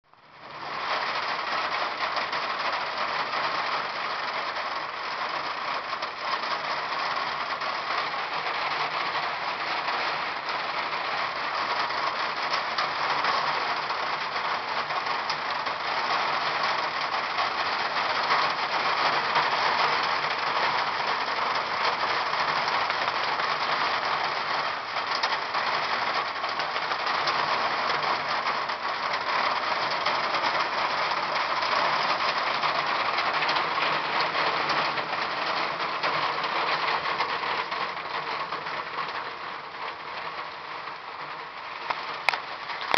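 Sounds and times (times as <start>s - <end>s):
hail clattering: 0.5s - 42.9s.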